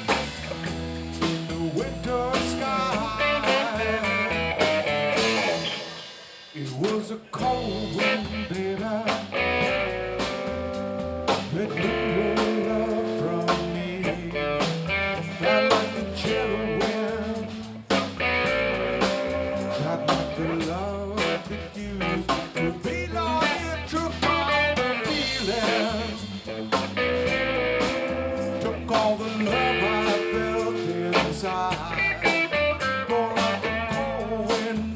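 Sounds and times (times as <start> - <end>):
electric guitar: 0.0 - 6.6, 7.4 - 34.9
bass guitar: 0.0 - 34.9
drum kit: 0.0 - 34.9.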